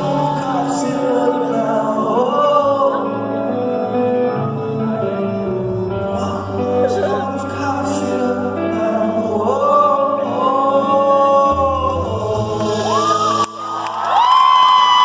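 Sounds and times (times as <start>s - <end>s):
man singing: 0.0s - 13.7s
band playing: 0.0s - 14.3s.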